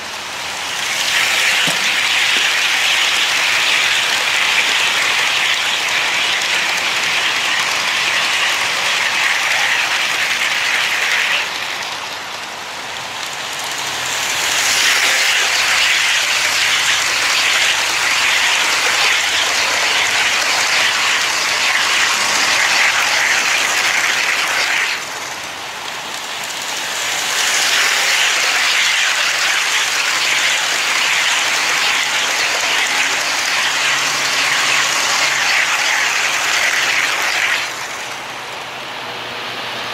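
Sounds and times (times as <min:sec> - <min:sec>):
model train wheels on rails: 0:00.0 - 0:39.4.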